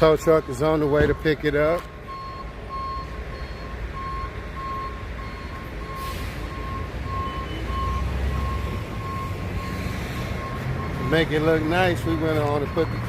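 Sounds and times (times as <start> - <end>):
truck reversing alarm beeping: 0.0 - 13.0.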